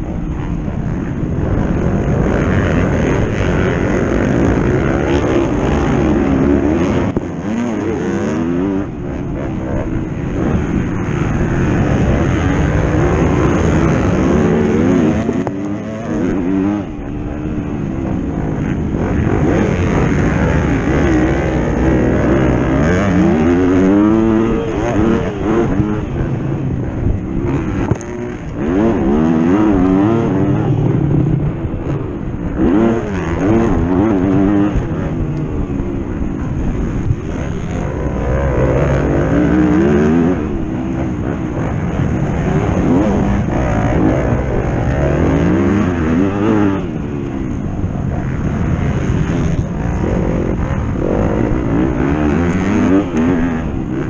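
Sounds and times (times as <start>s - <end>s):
racing engine revving: 0.3s - 54.0s.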